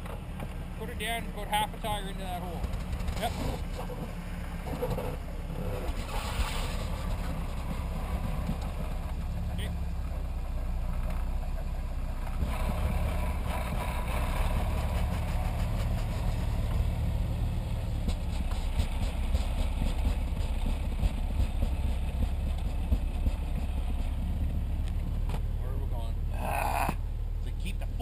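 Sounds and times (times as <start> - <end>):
car engine rumbling under load: 0.0 - 28.0.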